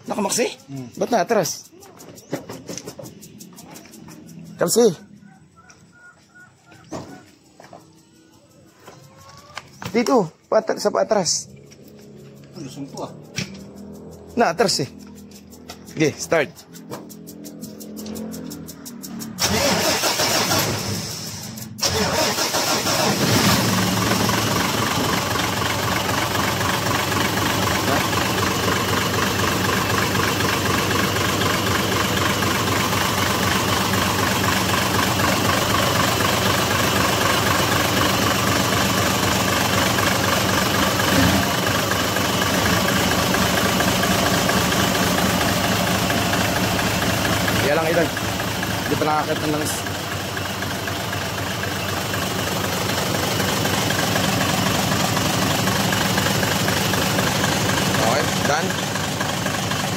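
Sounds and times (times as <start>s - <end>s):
diesel engine starting and idling: 8.8s - 59.9s.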